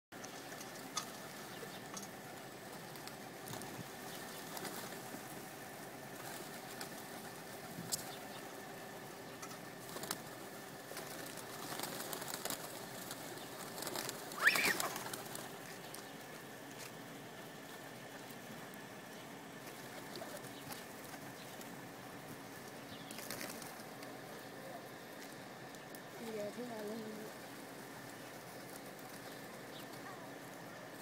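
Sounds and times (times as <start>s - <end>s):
pigeon wings flapping: 0.2s - 17.0s, 19.6s - 31.0s.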